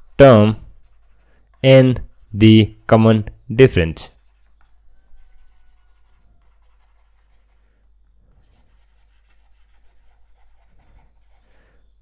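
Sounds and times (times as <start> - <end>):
stylus scratching on tablet: 0.0 - 3.0, 3.8 - 11.7.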